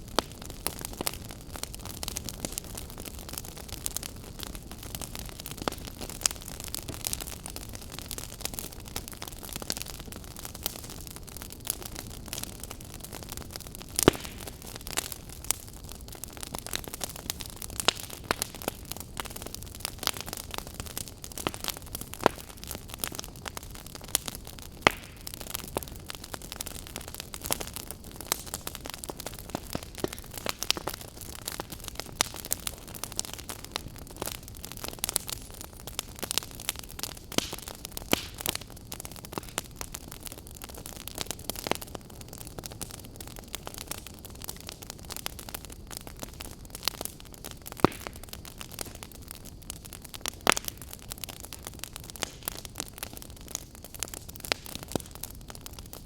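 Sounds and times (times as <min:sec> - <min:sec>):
campfire crackling and popping: 0:00.0 - 0:56.0
fire hiss: 0:00.0 - 0:56.0.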